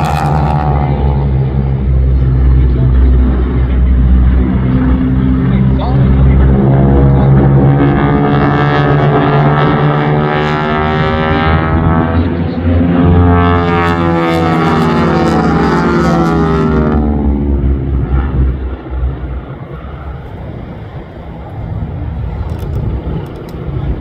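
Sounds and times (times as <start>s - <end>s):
propeller planes droning by: 0.0s - 24.0s.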